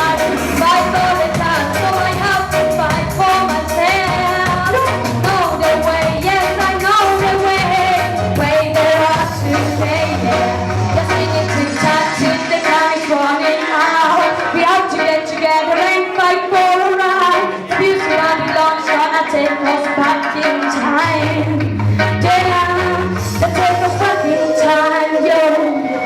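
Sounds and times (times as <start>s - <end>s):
reggae music with bass: 0.0s - 26.0s
woman singing: 0.0s - 26.0s.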